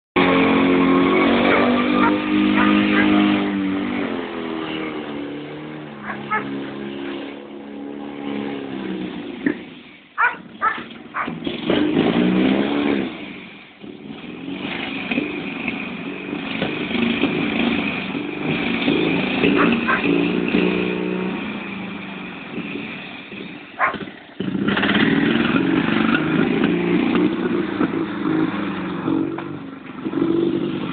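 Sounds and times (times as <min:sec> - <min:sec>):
car engine revving: 0:00.2 - 0:30.9.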